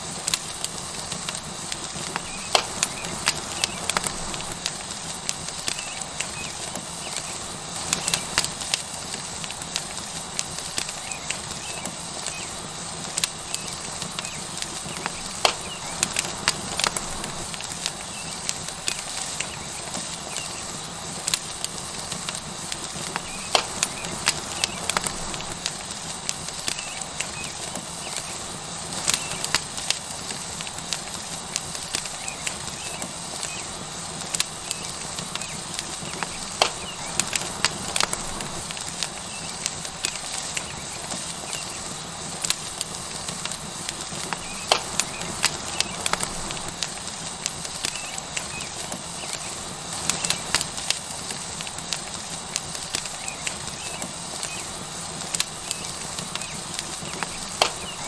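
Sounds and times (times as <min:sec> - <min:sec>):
steak sizzling on hot rock: 0:00.0 - 0:58.0
wood fire crackling and popping: 0:00.0 - 0:58.0.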